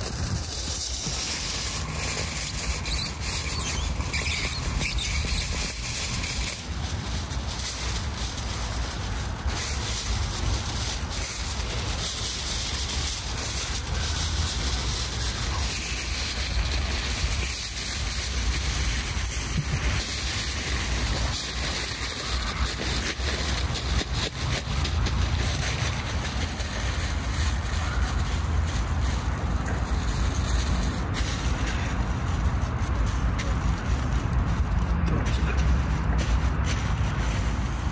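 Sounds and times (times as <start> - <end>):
aluminium foil crinkling: 0.0 - 37.9
wind rumble on microphone: 0.0 - 37.9.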